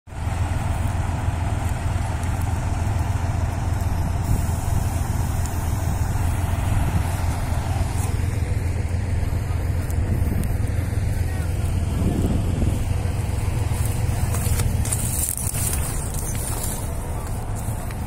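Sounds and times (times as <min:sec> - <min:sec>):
tractor diesel engine humming: 0:00.1 - 0:18.0.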